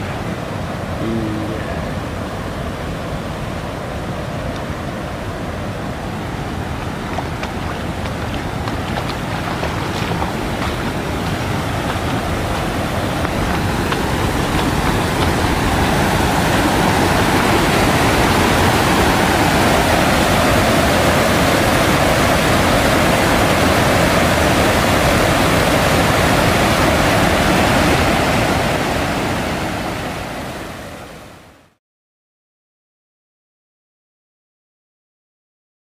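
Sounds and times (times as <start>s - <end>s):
floodwater rushing over a bank: 0.0s - 31.4s.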